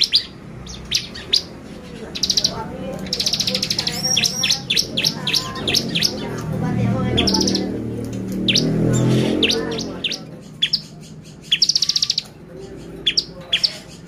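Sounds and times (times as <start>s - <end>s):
bird buzzy trills: 0.0s - 14.0s.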